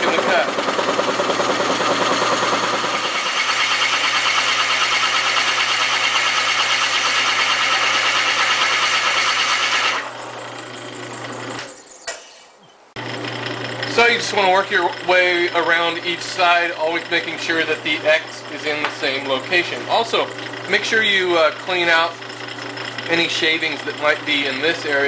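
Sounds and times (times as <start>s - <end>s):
motor hum: 0.0s - 8.7s, 13.0s - 25.0s
drill press boring into wood: 0.0s - 11.7s, 13.0s - 25.0s.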